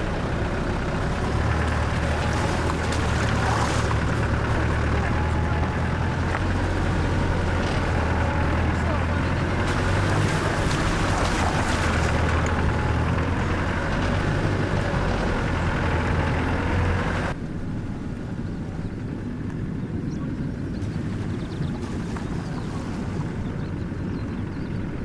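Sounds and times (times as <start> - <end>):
rough-road rumble: 0.0 - 25.0
vehicle engine drone: 0.0 - 25.0.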